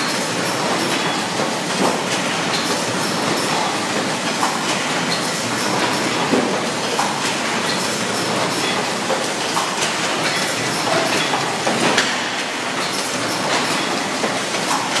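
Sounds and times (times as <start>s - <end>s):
machine clattering with sharp clacks: 0.0s - 15.0s.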